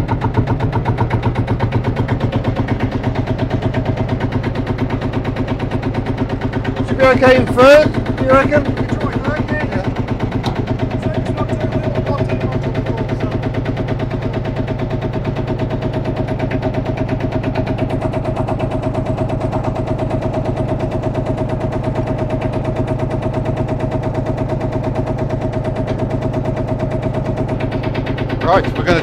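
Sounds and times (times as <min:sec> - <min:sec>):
diesel tractor engine thudding: 0:00.0 - 0:29.0.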